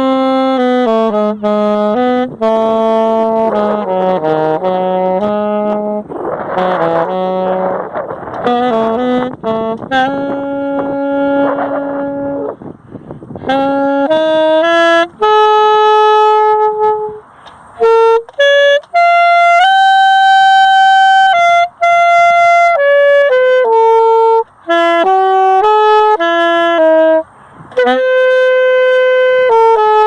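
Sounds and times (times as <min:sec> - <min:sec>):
solo saxophone: 0:00.0 - 0:30.0.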